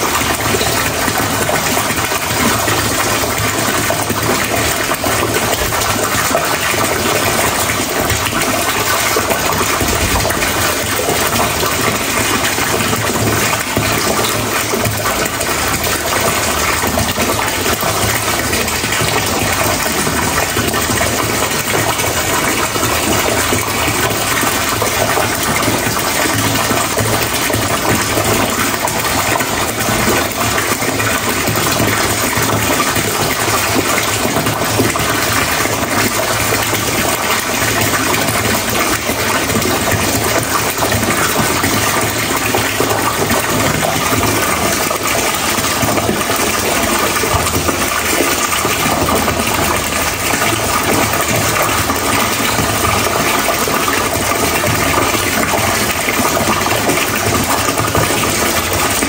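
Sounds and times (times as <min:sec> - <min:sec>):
loud rushing water: 0:00.0 - 0:59.0.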